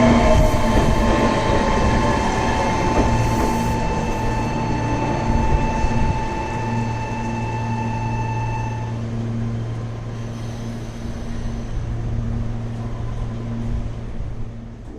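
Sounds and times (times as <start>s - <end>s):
electric train whine: 0.0s - 14.9s.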